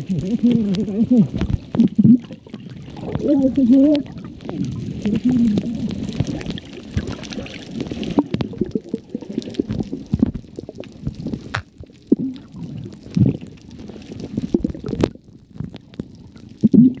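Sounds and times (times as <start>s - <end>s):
muffled underwater rumbling: 0.0s - 17.0s
water sloshing against camera: 0.0s - 17.0s.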